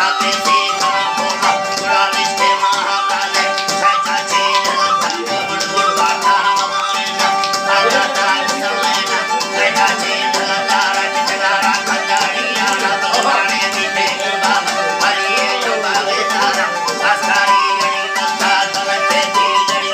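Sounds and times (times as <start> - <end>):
fast rattling beat: 0.0 - 19.9
instrumental music with held tones: 0.0 - 19.9.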